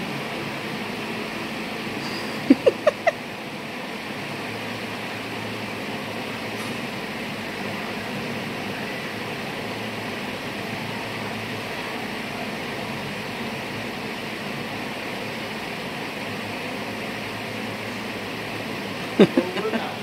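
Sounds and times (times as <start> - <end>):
air conditioning hum and hiss: 0.0 - 20.0.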